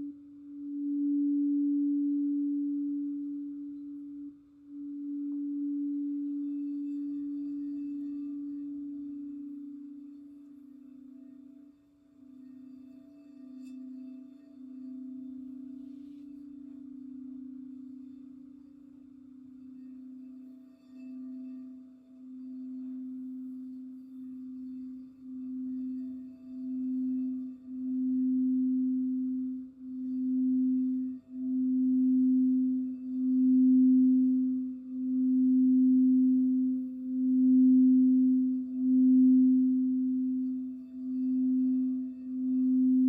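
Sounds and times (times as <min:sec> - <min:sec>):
crystal singing bowl ringing: 0:00.0 - 0:43.0.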